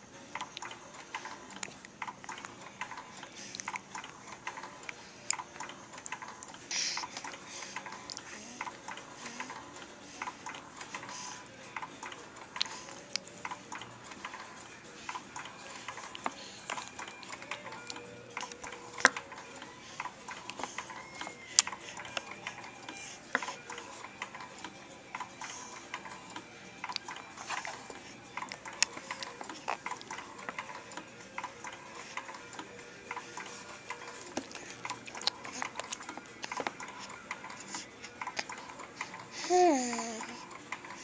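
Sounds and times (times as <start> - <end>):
baby swing clicking: 0.3 - 41.0.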